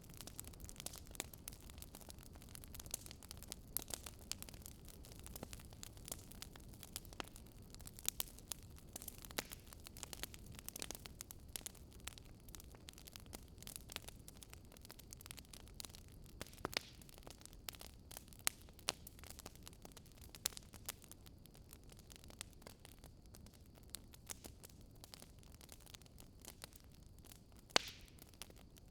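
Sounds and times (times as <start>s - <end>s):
fire crackling and popping: 0.0s - 28.9s
low rumble of flames: 0.0s - 28.9s.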